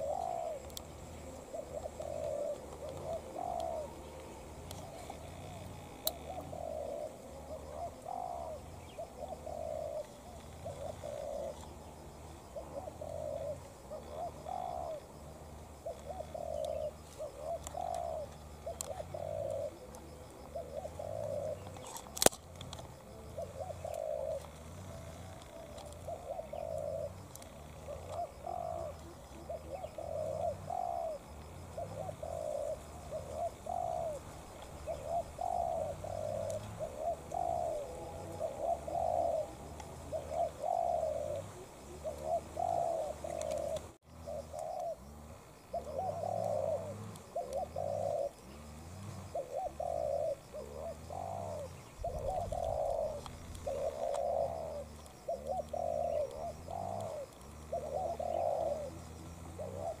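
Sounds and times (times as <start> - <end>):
doves cooing: 0.0 - 60.0.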